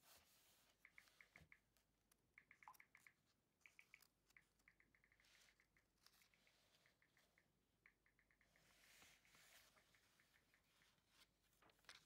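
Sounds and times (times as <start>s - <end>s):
faint high ticks: 0.7s - 11.3s.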